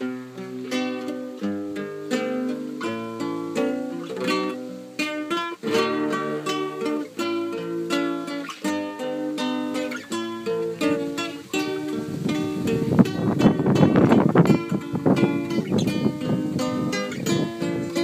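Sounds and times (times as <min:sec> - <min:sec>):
two acoustic guitars playing: 0:00.0 - 0:18.0.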